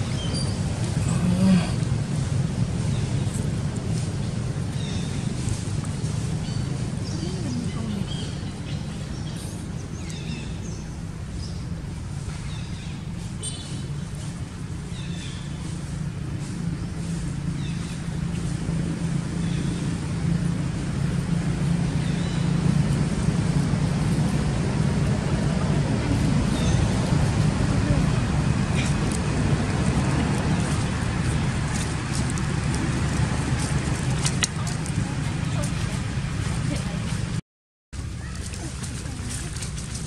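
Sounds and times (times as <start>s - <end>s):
low outdoor rumble: 0.0s - 37.4s, 38.0s - 40.0s.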